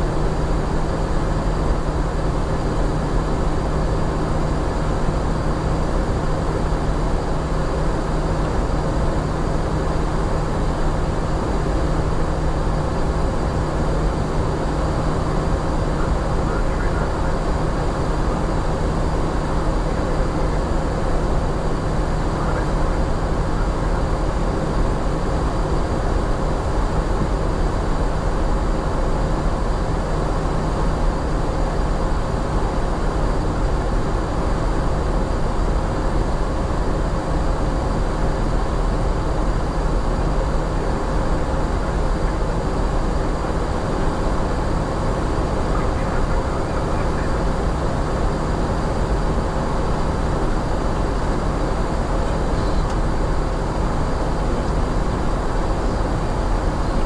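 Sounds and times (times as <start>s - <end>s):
cockpit air rush with low hum: 0.0s - 57.0s.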